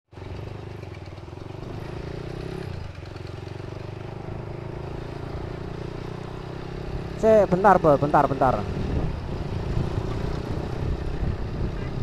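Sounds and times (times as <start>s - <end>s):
motorcycle engine running: 0.1s - 12.0s.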